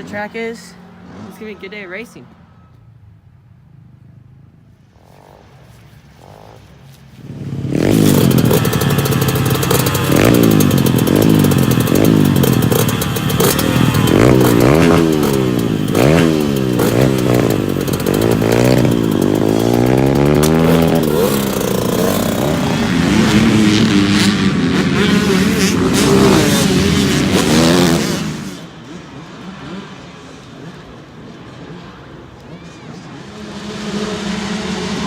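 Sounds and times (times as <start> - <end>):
dirt bike engine revving: 4.8 - 35.0.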